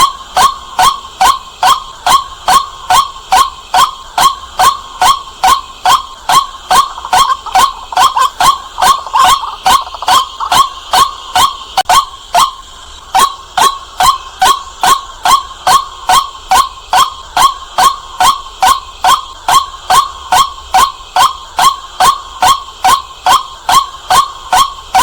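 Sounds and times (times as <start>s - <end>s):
waterhen calling kwak notes: 0.0s - 25.0s.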